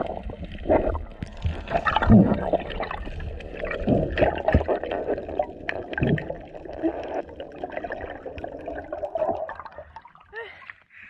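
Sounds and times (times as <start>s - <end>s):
water gurgling and bubbling: 0.0s - 10.3s.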